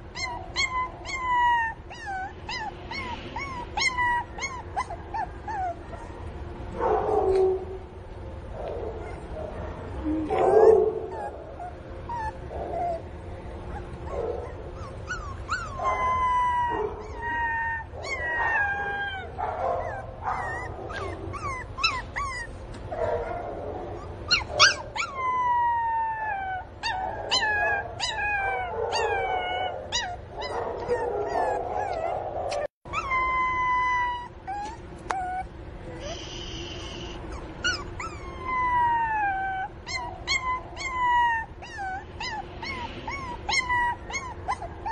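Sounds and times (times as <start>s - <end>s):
puppy whimpering and yelping: 0.0s - 6.3s, 8.9s - 9.4s, 10.0s - 23.4s, 24.0s - 44.9s.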